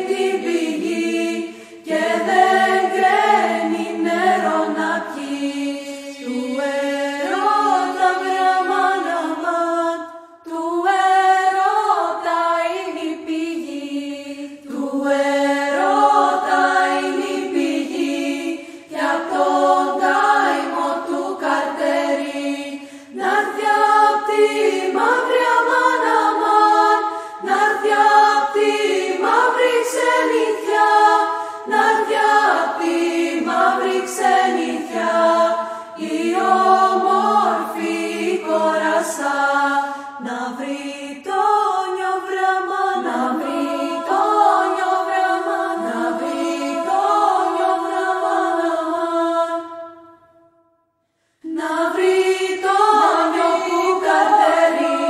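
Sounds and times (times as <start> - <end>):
a cappella group singing folk song: 0.0 - 55.0.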